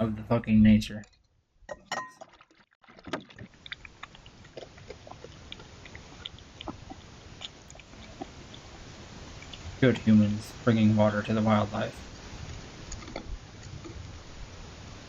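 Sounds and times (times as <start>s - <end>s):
water splashing and trickling: 1.9s - 14.4s.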